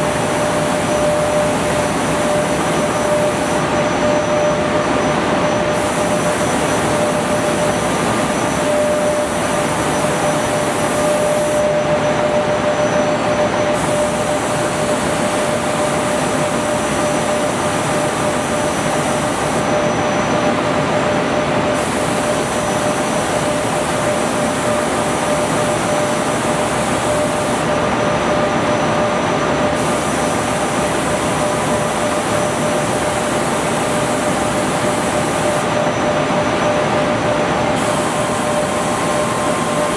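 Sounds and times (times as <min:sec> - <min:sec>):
high machine hiss: 0:00.0 - 0:20.6, 0:21.6 - 0:28.0, 0:28.9 - 0:39.9
machine whirring and humming: 0:00.0 - 0:39.9.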